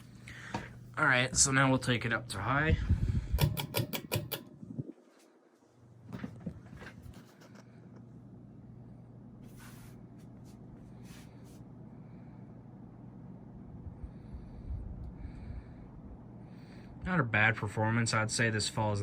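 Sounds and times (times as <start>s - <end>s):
ceiling fan motor hum: 0.0s - 19.0s.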